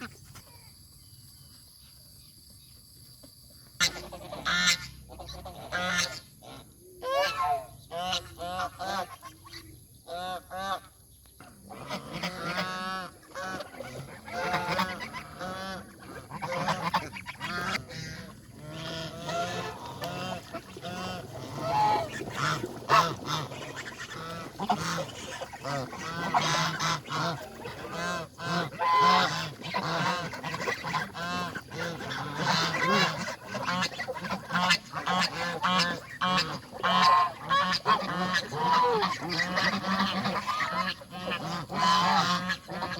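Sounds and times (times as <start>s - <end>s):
geese honking: 3.8s - 9.3s, 11.8s - 42.9s.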